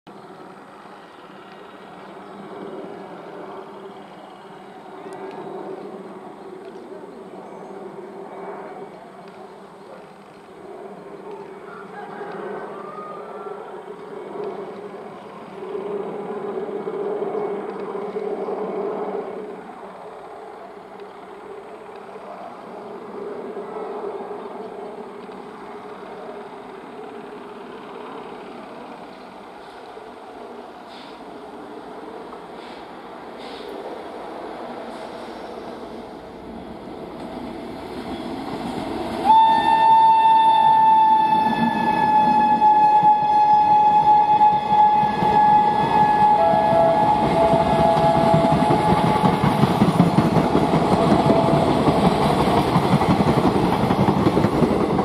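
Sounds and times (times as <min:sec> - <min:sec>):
electric locomotive humming: 0:00.1 - 0:55.0.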